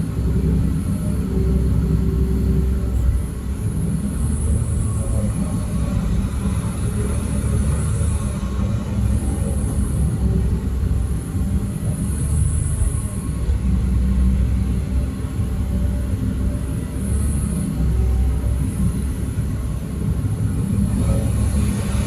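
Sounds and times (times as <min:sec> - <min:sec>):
diesel machinery rumbling: 0:00.0 - 0:22.0.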